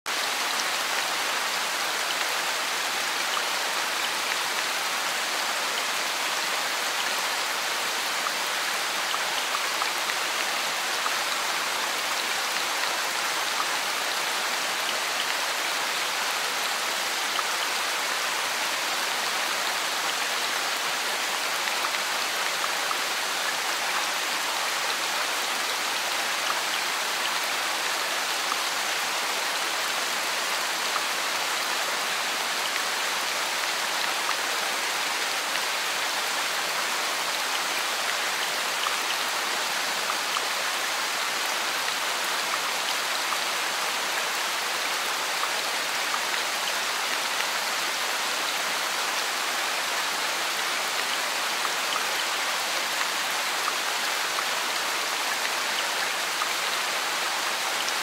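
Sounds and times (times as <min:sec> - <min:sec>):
heavy rain on wet pavement: 0:00.1 - 0:58.0.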